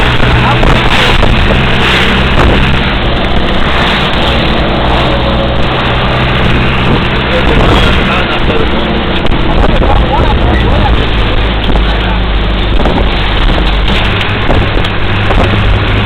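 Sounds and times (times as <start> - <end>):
road and wind noise: 0.0 - 16.0
truck engine running: 0.0 - 16.0.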